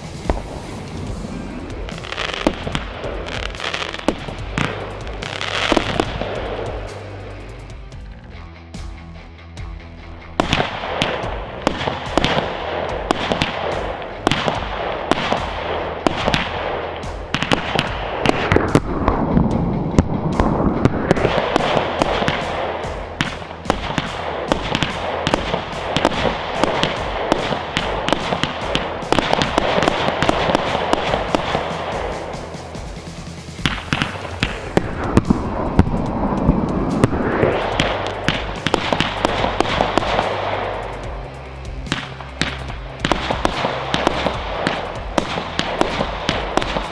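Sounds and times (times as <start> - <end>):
firework battery firing: 0.0 - 7.0, 10.4 - 46.9.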